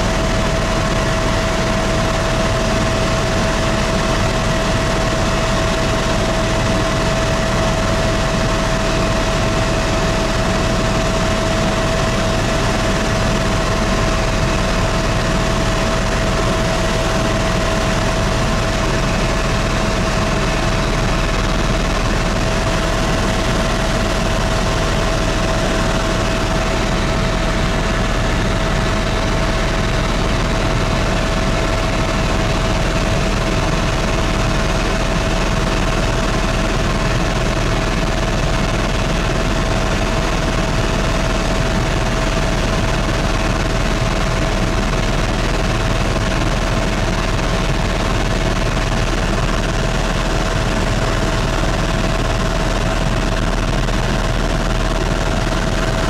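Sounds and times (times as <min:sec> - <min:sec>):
helicopter engine and rotor rumble: 0:00.0 - 0:56.0
steady whine: 0:00.0 - 0:56.0.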